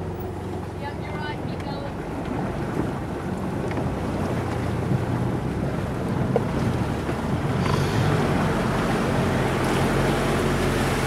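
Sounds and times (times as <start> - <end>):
vehicle engine at low revs: 0.0 - 11.0
wind buffeting microphone: 0.0 - 11.0.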